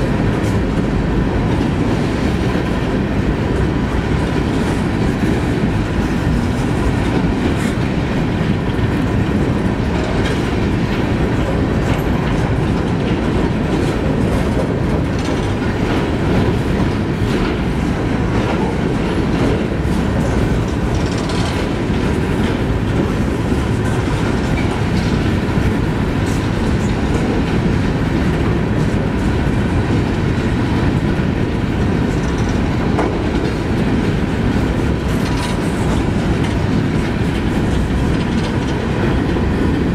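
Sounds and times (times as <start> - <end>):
freight train wheels rumbling: 0.0 - 39.9
wheels clicking over track: 0.0 - 39.9.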